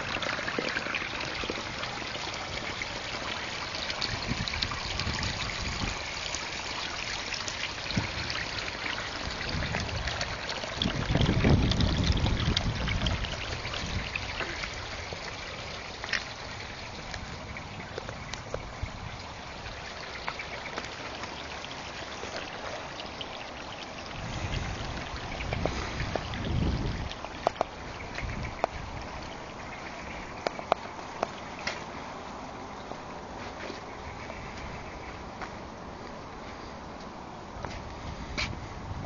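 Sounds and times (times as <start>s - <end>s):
water trickling into a pool: 0.0s - 39.0s.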